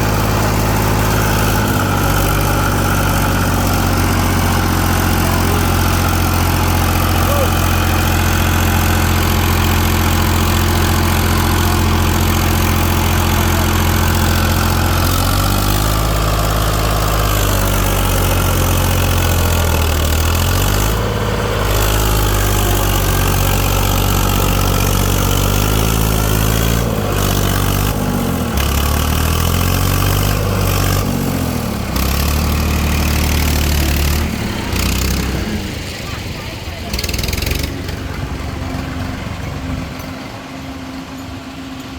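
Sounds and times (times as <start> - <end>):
tractor engine revving: 0.0 - 41.9.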